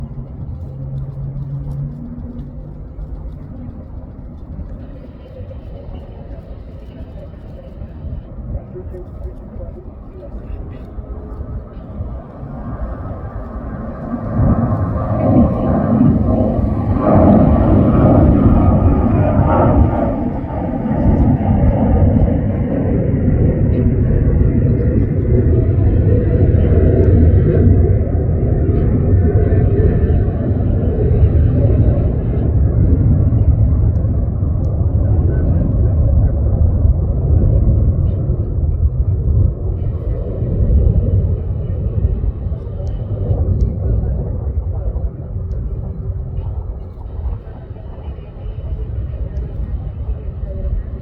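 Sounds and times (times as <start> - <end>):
engine rumble: 0.0 - 51.0
low hum: 0.0 - 51.0.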